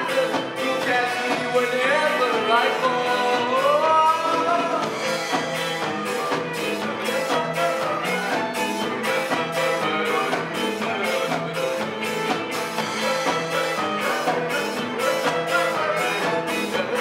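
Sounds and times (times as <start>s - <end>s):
folk music ensemble: 0.0s - 17.0s
steady drum beat: 0.0s - 17.0s.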